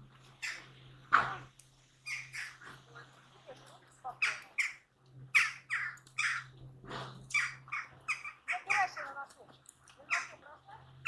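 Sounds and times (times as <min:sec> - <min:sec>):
birds squawking: 0:00.2 - 0:09.3, 0:09.9 - 0:11.0.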